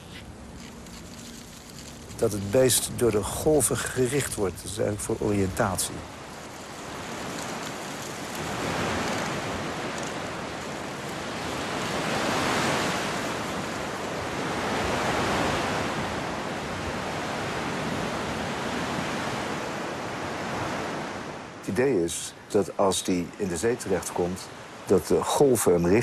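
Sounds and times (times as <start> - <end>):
sea surf breaking: 0.7 - 26.0.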